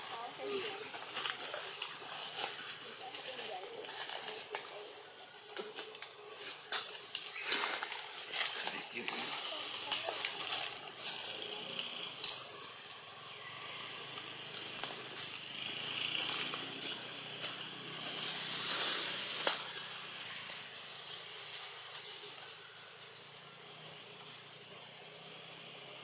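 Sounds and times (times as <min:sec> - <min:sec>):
steady high hiss: 0:04.7 - 0:26.0.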